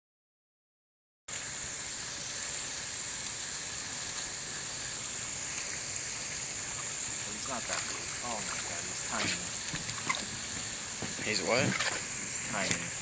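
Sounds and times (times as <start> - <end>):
high-pitched hiss: 1.3 - 13.0.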